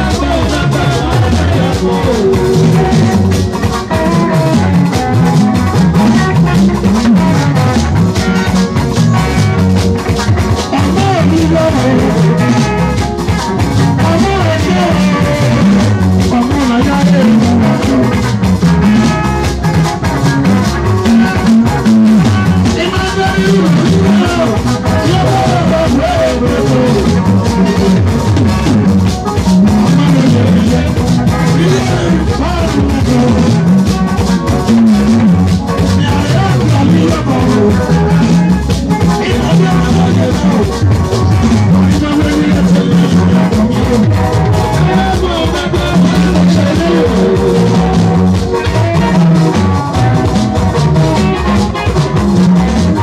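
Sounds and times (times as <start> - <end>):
man singing into microphone: 0.0 - 53.0
rock band playing: 0.0 - 53.0.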